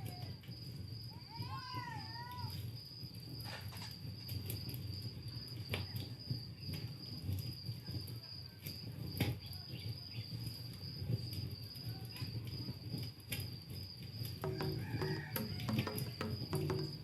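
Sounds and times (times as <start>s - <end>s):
cricket trill: 0.0s - 17.0s.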